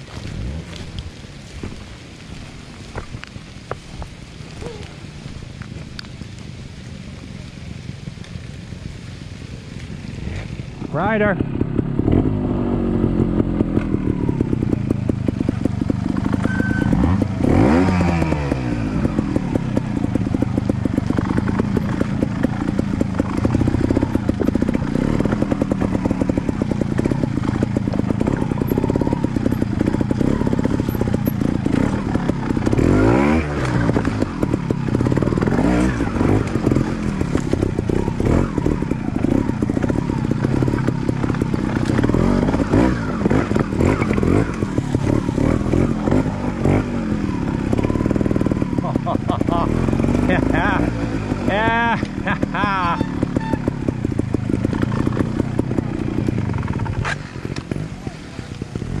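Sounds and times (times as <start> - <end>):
motorcycle engine revving: 0.0 - 3.7, 4.3 - 59.0.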